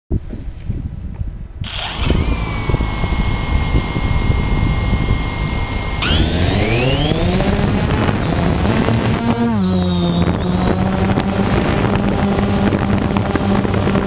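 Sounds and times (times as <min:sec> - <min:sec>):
drone motors whining: 0:01.6 - 0:14.0.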